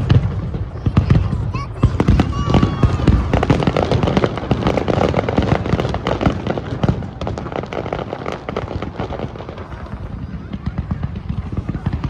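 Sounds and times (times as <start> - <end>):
aerial fireworks crackling: 0.0 - 12.0.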